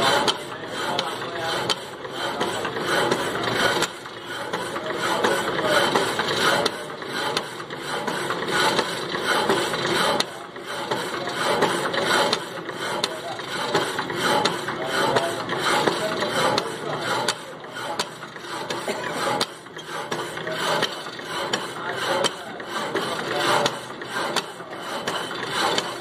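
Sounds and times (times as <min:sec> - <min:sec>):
band saw cutting metal bar: 0:00.0 - 0:26.0.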